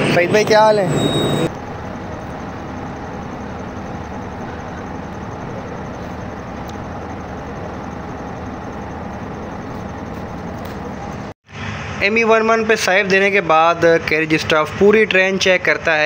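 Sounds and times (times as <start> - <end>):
diesel locomotive idling: 0.0 - 16.0.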